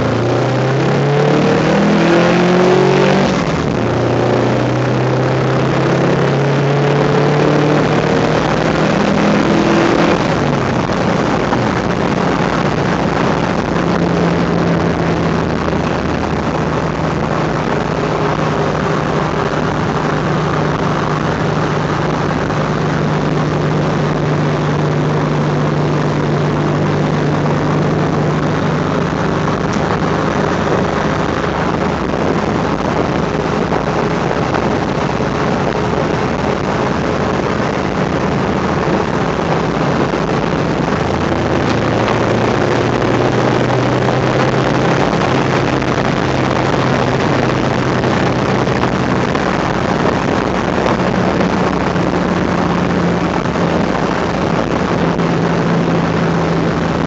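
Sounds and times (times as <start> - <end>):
car engine drone: 0.0 - 57.0
road and wind noise: 0.0 - 57.0.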